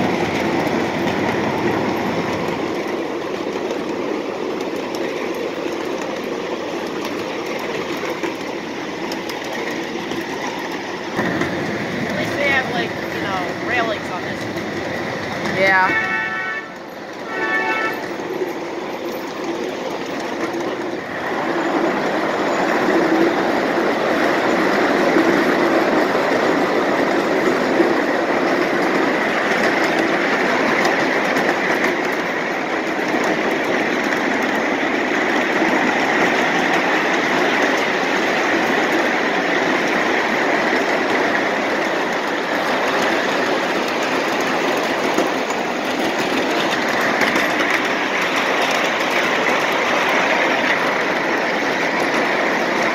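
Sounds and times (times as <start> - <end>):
miniature train wheels on rails: 0.0 - 52.9.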